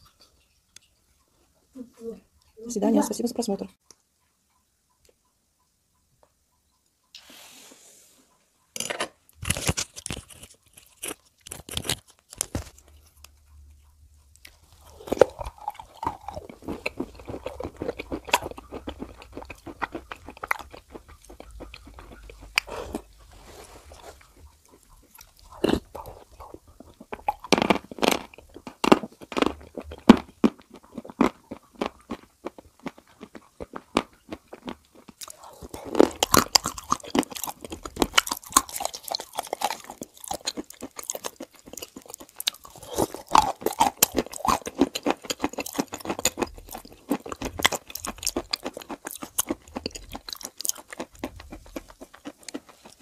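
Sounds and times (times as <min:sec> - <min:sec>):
crunchy chewing: 0:09.3 - 0:53.0.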